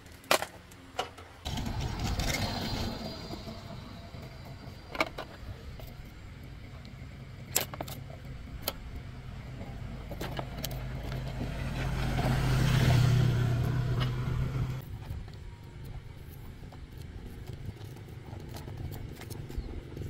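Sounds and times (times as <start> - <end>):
small motorbike engine running: 1.4 - 20.0.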